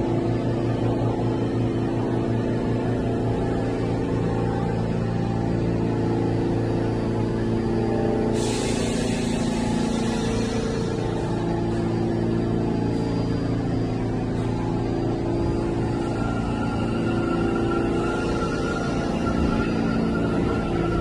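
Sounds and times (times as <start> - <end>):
subway car equipment humming: 0.0 - 21.0.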